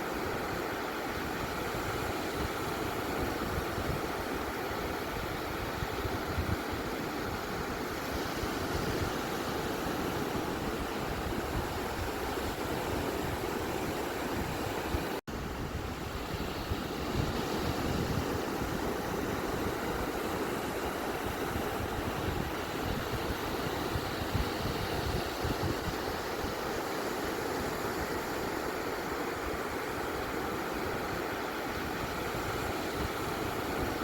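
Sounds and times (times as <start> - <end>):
ocean waves on a beach: 0.0 - 34.0.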